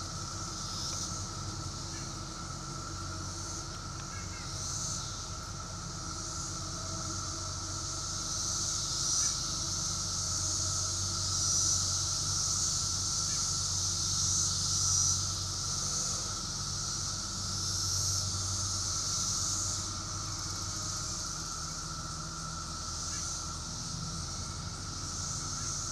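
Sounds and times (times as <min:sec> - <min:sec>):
cicadas buzzing: 0:00.0 - 0:25.9
low drone: 0:00.0 - 0:25.9.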